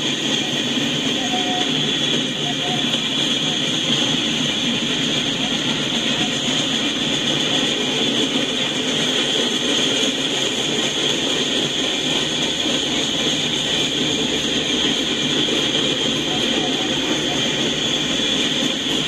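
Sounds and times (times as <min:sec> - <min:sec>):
freight train wheels on track: 0:00.0 - 0:19.0.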